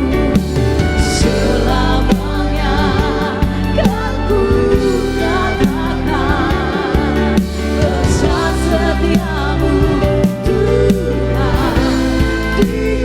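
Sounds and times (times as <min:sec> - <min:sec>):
live band with bass and drums: 0:00.0 - 0:13.0
voices singing: 0:00.0 - 0:13.0.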